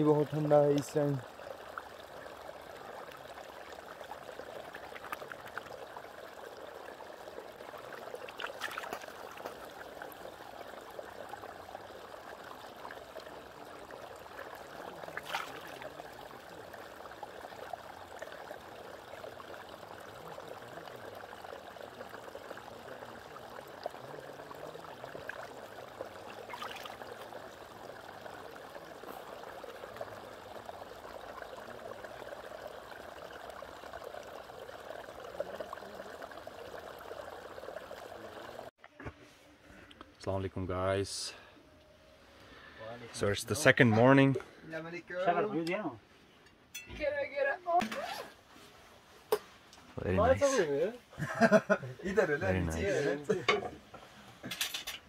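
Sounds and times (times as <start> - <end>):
stream water flowing: 0.0 - 38.7, 42.2 - 45.9, 46.8 - 55.0.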